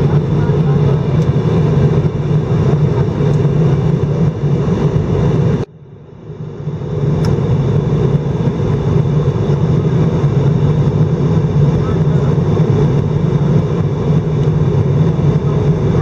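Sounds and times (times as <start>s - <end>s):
airliner engine hum and airflow: 0.0s - 16.0s.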